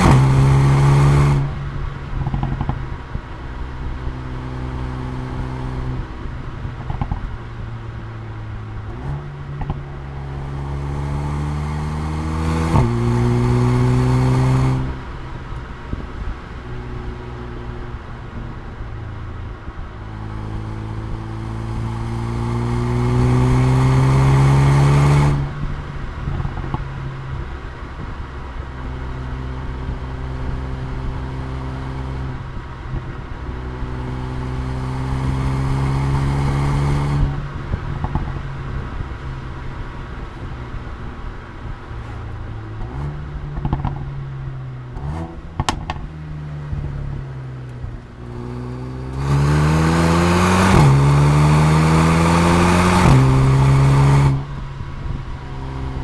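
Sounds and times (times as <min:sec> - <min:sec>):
car engine revving: 0:00.0 - 0:56.0
exhaust popping and crackling: 0:00.0 - 0:56.0.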